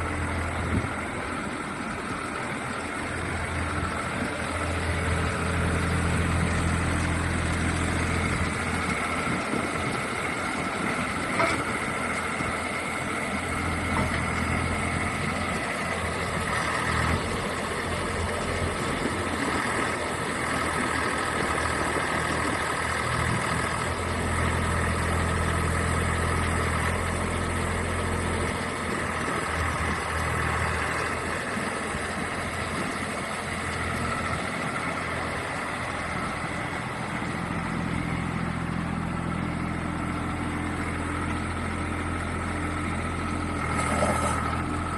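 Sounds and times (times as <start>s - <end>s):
excavator engine humming: 0.0s - 44.9s.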